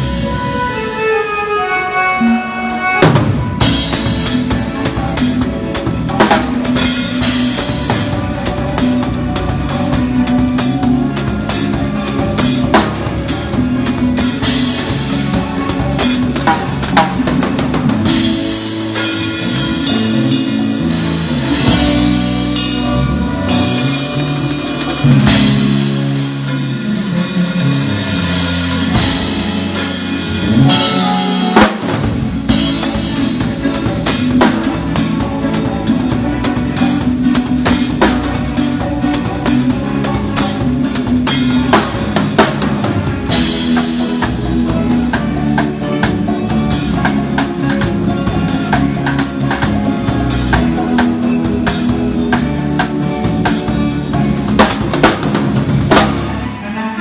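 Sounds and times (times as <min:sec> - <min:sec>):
bass line: 0:00.0 - 0:57.0
keyboards: 0:00.0 - 0:57.0
drum kit groove: 0:01.9 - 0:57.0.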